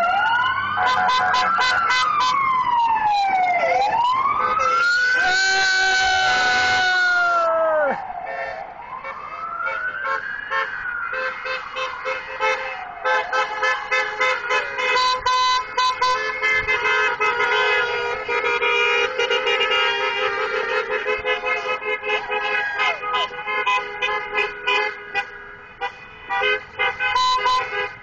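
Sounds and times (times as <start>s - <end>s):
fire truck siren wailing: 0.0s - 25.3s
vehicle horns honking: 0.8s - 2.4s, 3.6s - 7.0s, 8.2s - 28.0s.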